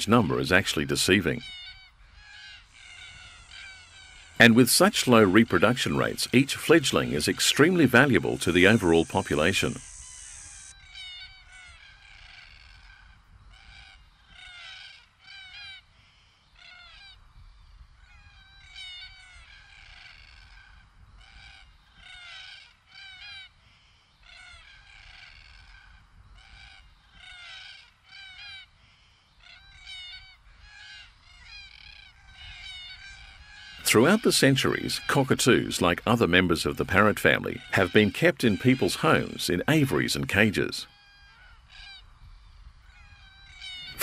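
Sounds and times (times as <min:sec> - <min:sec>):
cockatoos calling: 0:00.0 - 0:17.2, 0:18.1 - 0:44.0.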